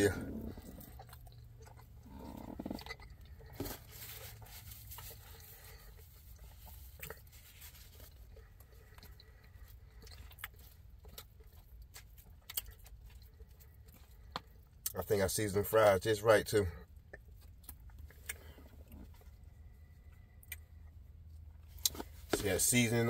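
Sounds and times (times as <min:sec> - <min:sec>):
chewing food: 0:00.0 - 0:15.1, 0:16.7 - 0:22.4.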